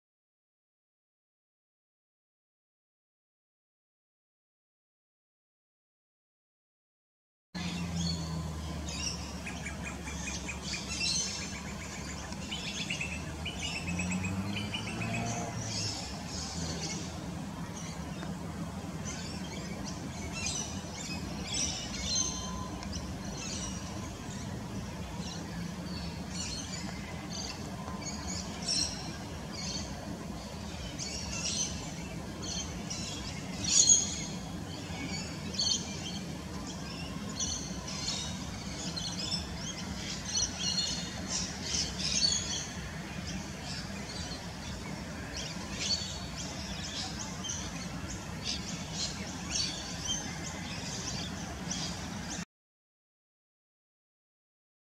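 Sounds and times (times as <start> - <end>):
birds chirping: 7.6 - 52.4.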